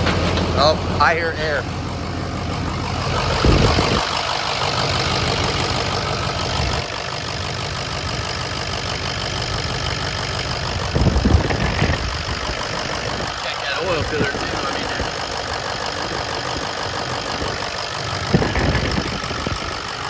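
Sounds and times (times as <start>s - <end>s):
diesel engine idling: 0.0s - 20.0s
low rumbles: 0.0s - 20.0s.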